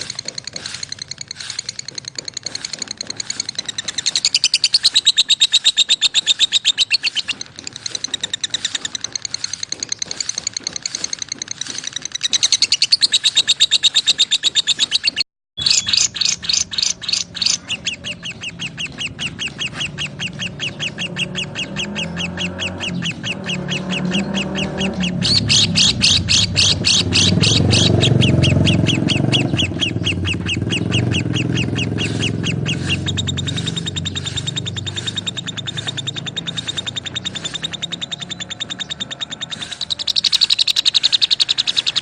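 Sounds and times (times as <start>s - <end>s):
lovebirds chirping: 0.0s - 42.0s.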